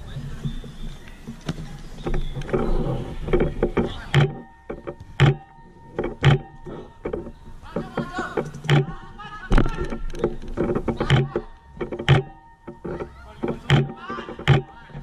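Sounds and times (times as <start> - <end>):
dull thuds: 0.0 - 15.0
players calling out: 0.0 - 15.0.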